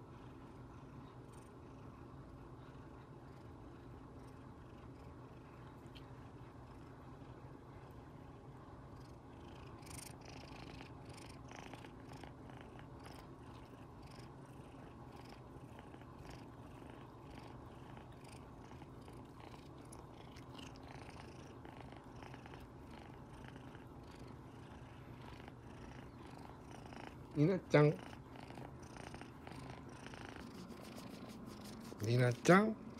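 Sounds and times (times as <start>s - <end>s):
kitten purring: 0.0s - 32.9s.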